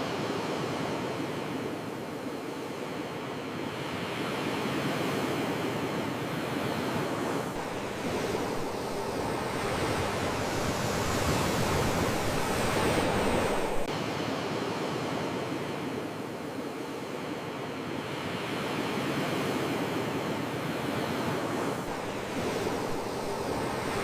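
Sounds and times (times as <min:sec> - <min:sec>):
ocean waves rushing: 0:00.0 - 0:17.1, 0:18.2 - 0:24.0.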